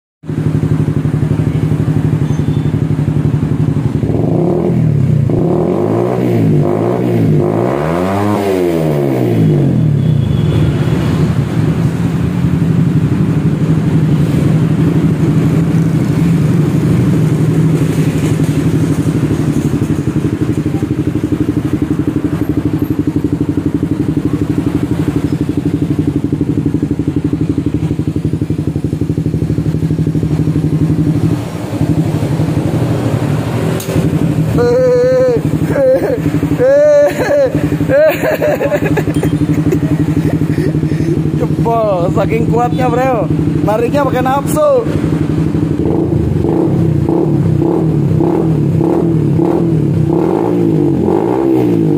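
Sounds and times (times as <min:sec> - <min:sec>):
motorcycle engine revving and idling: 0:00.2 - 0:51.9.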